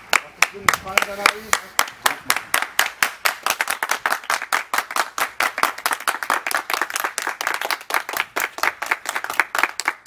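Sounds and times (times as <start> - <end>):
people clapping: 0.0 - 10.0.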